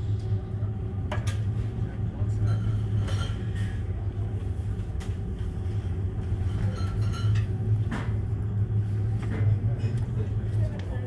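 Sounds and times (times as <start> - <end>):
ferry engines droning: 0.0 - 11.0.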